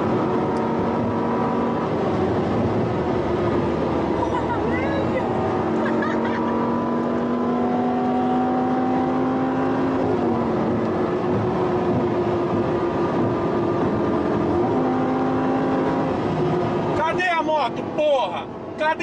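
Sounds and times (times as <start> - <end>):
vehicle engine at high revs: 0.0 - 17.1
wind and road noise: 0.0 - 19.0.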